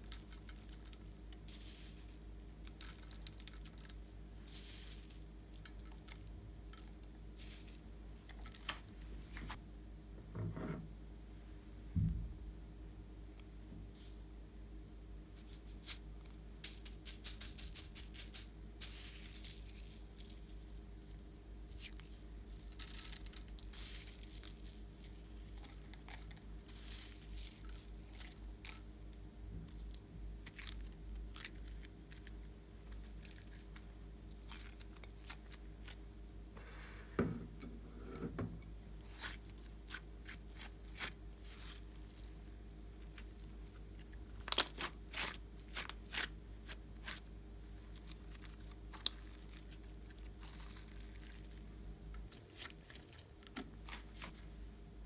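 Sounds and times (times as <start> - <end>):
sequins crackling and rustling: 0.0 - 9.6, 15.4 - 36.8, 38.9 - 54.5.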